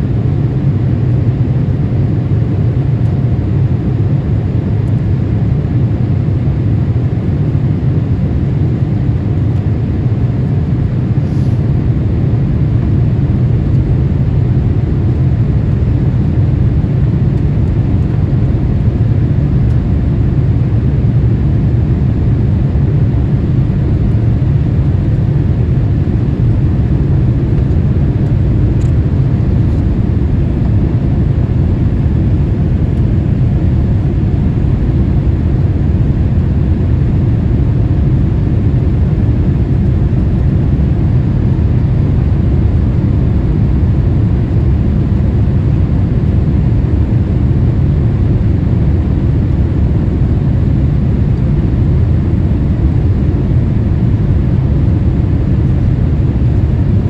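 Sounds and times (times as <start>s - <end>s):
aircraft cabin engine rumble: 0.0s - 57.0s
airflow over fuselage: 0.0s - 57.0s.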